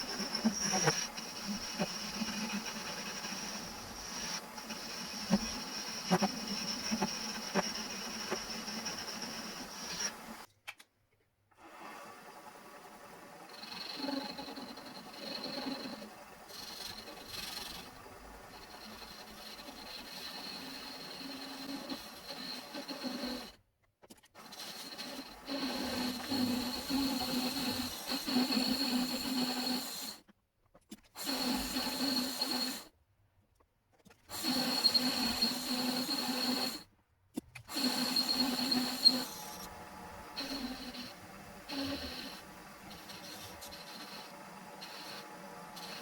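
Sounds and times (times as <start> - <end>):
small motor whining: 0.0 - 10.5, 11.6 - 23.6, 24.4 - 30.2, 31.2 - 32.9, 34.3 - 36.9, 37.6 - 46.0.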